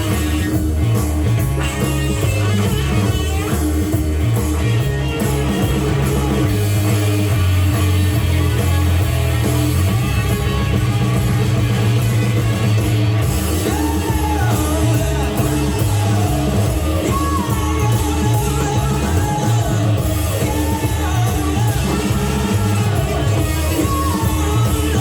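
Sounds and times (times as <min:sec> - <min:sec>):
bass guitar: 0:00.0 - 0:25.0
drum kit: 0:00.0 - 0:25.0
electric guitar: 0:00.0 - 0:25.0.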